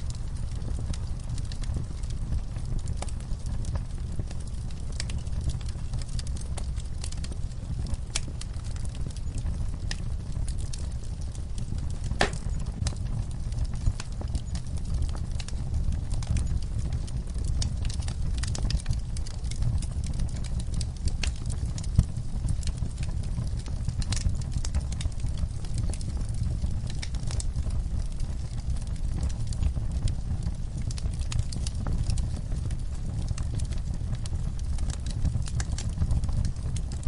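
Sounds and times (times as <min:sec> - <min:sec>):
low rumble of burning logs: 0:00.0 - 0:37.0
wood fire crackling: 0:00.0 - 0:37.0.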